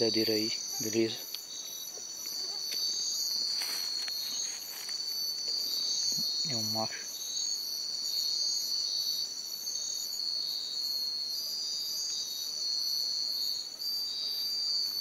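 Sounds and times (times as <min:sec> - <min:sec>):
insect trills: 0:00.0 - 0:15.0.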